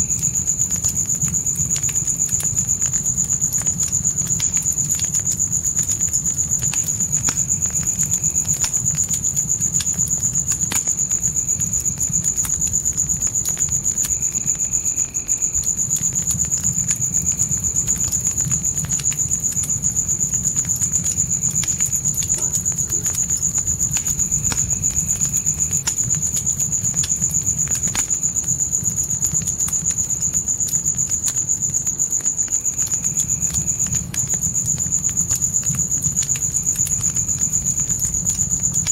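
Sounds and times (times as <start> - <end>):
campfire crackling: 0.0 - 38.9
crickets trilling: 0.0 - 38.9
faint insect calls: 0.0 - 38.9
low rumble of flames: 0.0 - 38.9.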